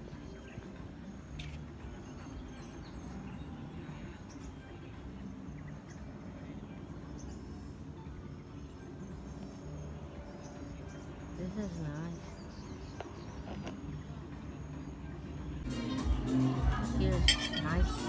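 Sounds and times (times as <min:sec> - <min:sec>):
faint bird chirps: 0:00.0 - 0:15.6.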